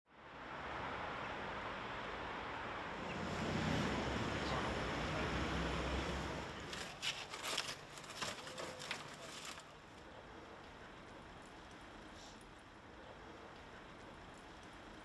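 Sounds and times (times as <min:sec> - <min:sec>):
traffic noise: 0:00.1 - 0:15.0
vehicle passing rumble: 0:00.2 - 0:15.0.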